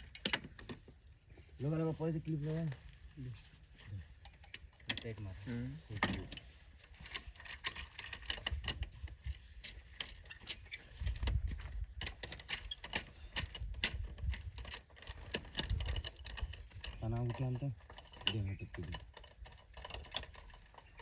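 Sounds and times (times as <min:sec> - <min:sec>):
metal clinking and rattling: 0:02.3 - 0:21.0.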